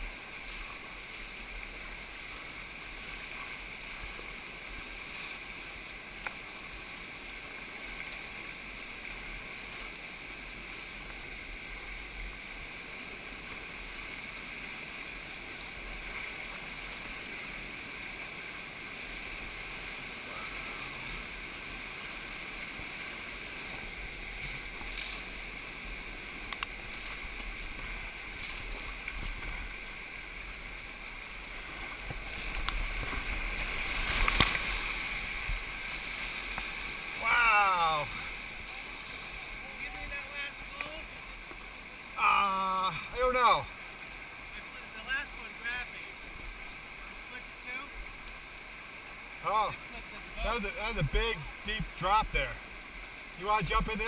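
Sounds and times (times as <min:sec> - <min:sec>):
whitewater rapids rushing: 0:00.0 - 0:54.0.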